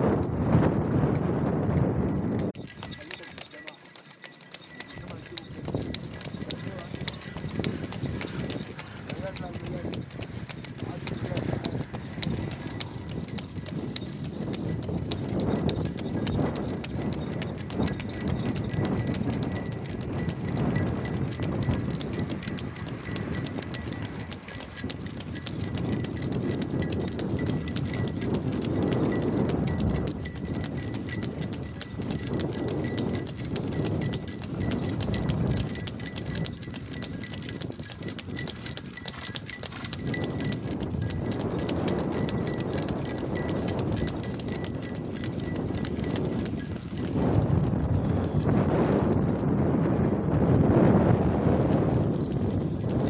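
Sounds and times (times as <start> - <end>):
runner's footsteps: 0.0 - 53.0.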